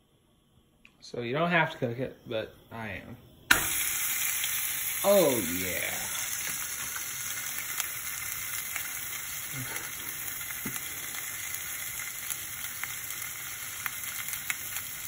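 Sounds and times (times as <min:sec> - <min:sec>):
food sizzling in hot oil: 0:02.8 - 0:15.0.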